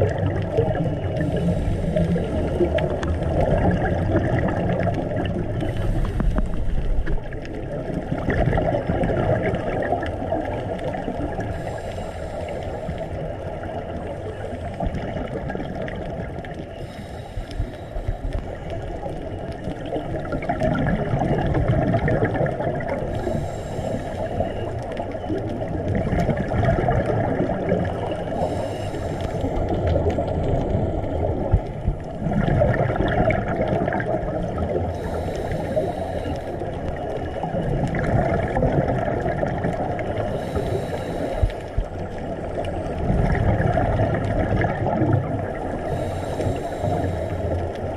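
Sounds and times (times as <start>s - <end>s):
regulator bubbles: 0.0s - 47.9s
underwater water noise: 0.0s - 47.9s.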